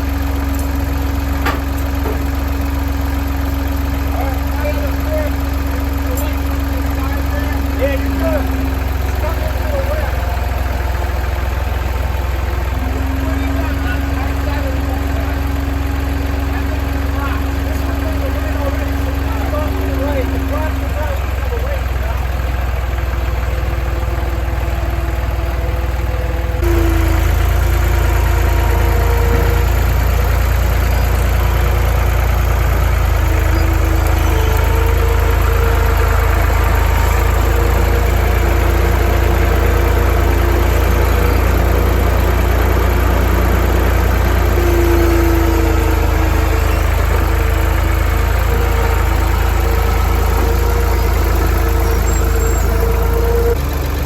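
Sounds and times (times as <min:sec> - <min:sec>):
engine humming with whine: 0:00.0 - 0:54.0.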